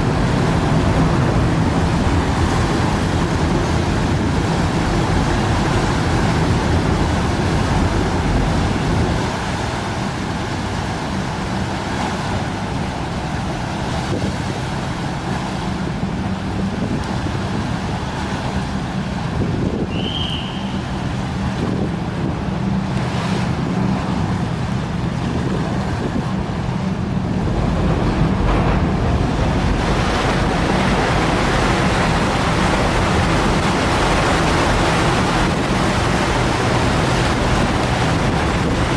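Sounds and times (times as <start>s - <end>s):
churning water: 0.0s - 38.9s
ferry engines humming: 0.0s - 38.9s
wind buffeting microphone: 0.0s - 38.9s.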